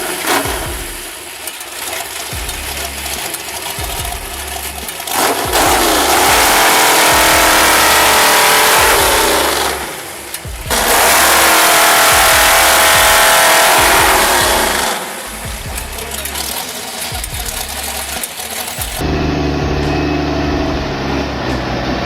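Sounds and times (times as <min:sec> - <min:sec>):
engine revving hard: 0:00.0 - 0:22.0.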